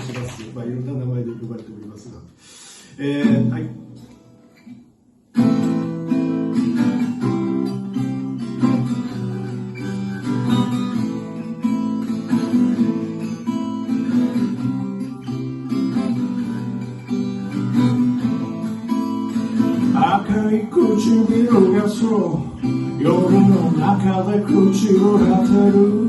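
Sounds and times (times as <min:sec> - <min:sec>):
acoustic guitar strumming chords: 0:03.2 - 0:26.0.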